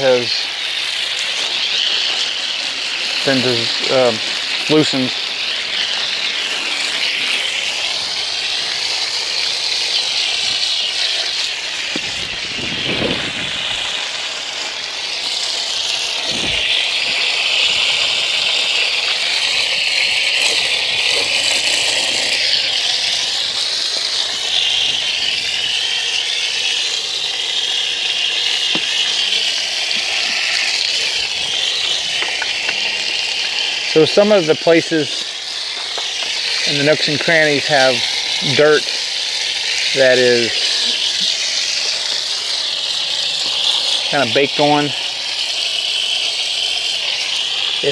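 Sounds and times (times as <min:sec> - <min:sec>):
garden hose spraying water: 0:00.0 - 0:47.9.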